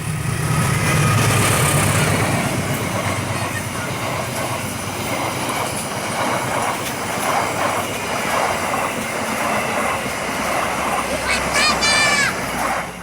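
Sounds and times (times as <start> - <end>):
train wheels clattering: 0.0 - 13.0
wheel-on-rail roar: 0.0 - 13.0.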